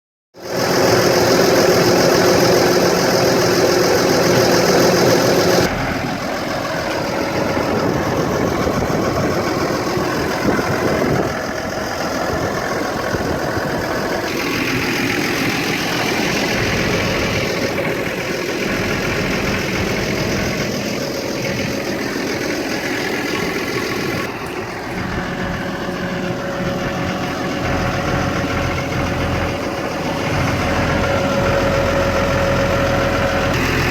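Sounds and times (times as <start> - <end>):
tractor diesel engine idling: 0.4 - 33.9.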